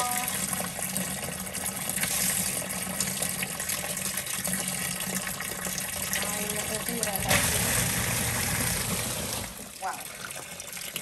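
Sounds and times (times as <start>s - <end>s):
tap water running into tub: 0.0s - 11.0s.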